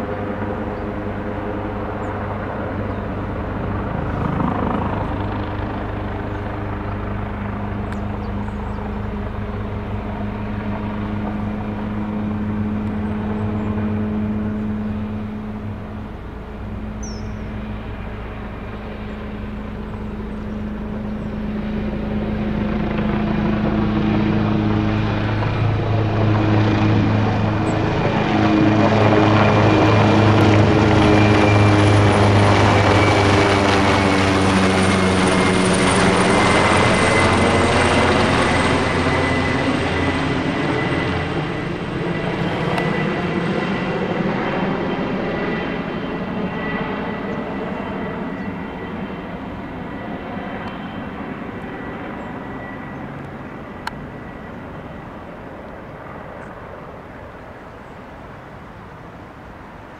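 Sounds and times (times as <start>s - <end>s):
helicopter rotor beat and turbine whine: 0.0s - 59.9s.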